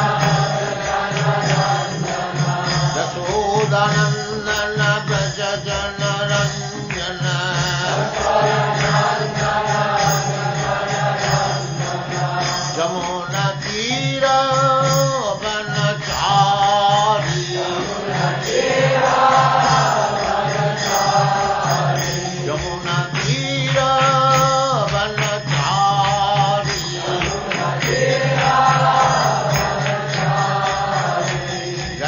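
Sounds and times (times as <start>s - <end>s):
devotional chanting: 0.0s - 32.0s.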